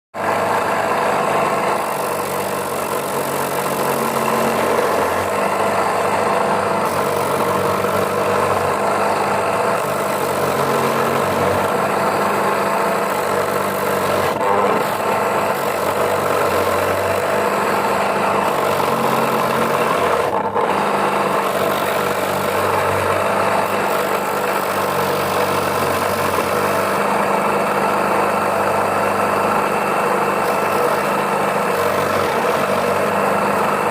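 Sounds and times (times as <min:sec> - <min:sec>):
grating machine droning: 0:00.2 - 0:33.9.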